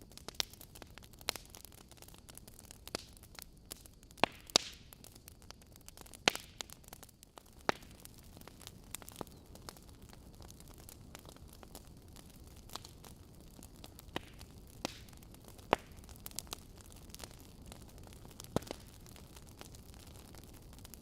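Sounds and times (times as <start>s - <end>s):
logs crackling in fireplace: 0.0s - 21.0s.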